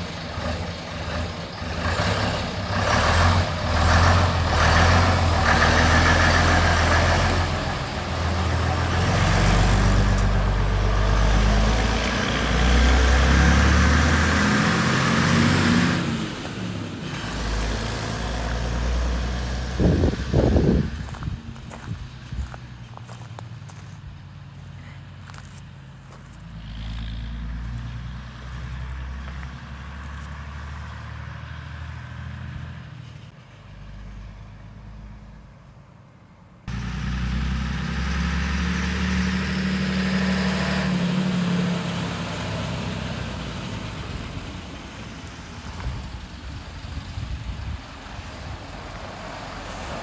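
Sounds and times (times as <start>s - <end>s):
truck diesel engine running: 0.0s - 31.2s, 36.7s - 50.0s.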